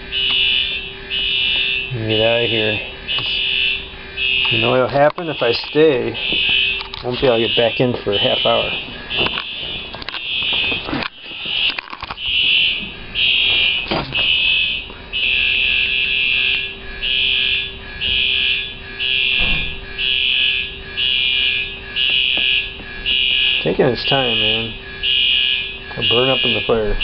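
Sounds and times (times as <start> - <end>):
fire alarm pulsing tone: 0.0 - 27.0.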